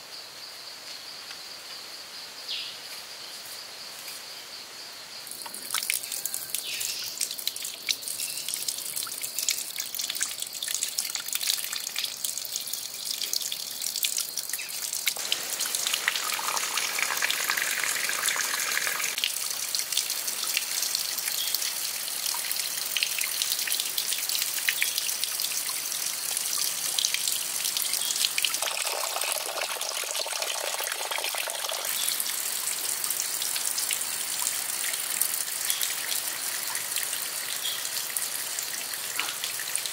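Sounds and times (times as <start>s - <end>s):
fountain water splashing into pond: 5.3s - 39.9s.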